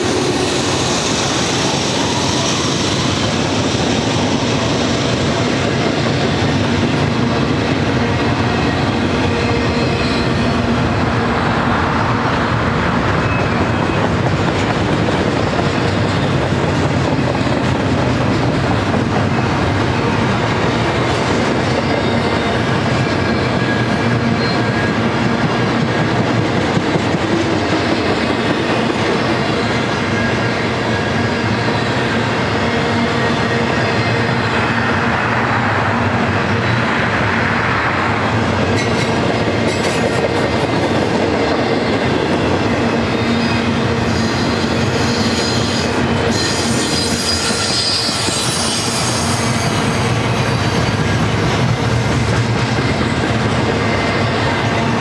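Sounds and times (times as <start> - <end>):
steel wheels rolling on rail: 0.0 - 55.0.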